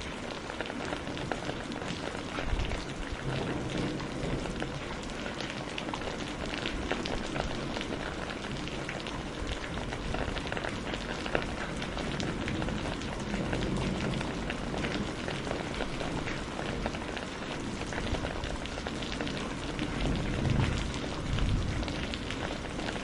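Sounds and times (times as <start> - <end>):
heavy rain: 0.0 - 23.0
raindrops pattering and splashing: 0.0 - 23.0.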